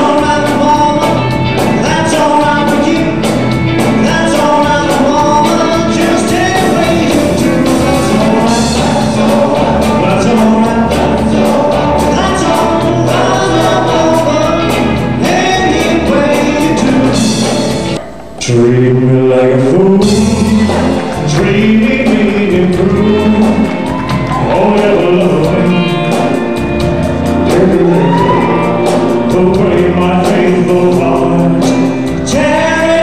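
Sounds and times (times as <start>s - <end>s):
steady drum beat: 0.0s - 18.5s, 19.8s - 33.0s
band music: 0.0s - 33.0s
several voices singing: 0.0s - 33.0s.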